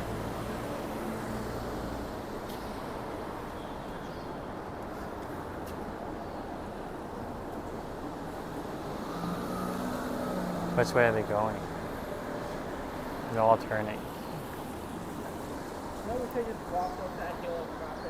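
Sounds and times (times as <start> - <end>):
city traffic: 0.0 - 18.0.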